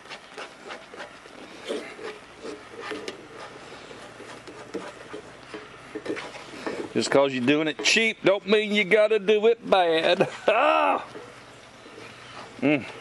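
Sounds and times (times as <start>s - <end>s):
wooden spoon scraping skillet: 0.0s - 9.0s, 11.1s - 13.0s.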